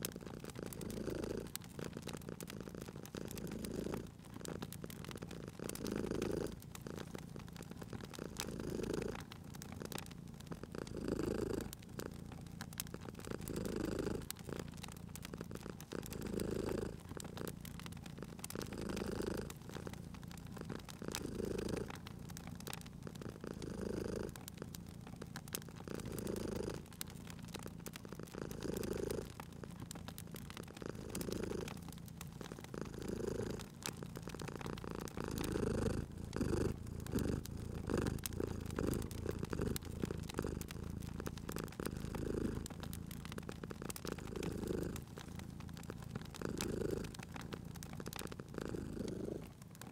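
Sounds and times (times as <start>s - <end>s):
cat purring: 0.0s - 49.9s
wood fire crackling: 0.0s - 49.9s.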